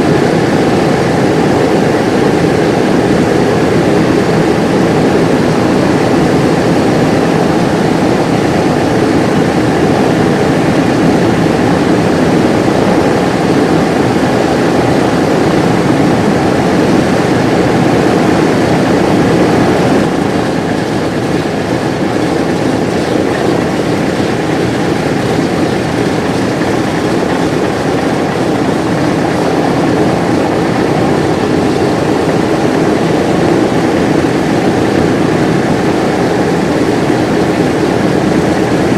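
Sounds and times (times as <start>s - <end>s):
piston engine drone: 0.0s - 38.9s.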